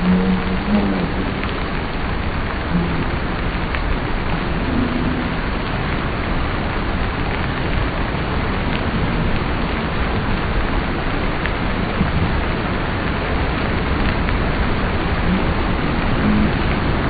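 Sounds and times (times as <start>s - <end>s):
heavy rushing water: 0.0s - 17.0s.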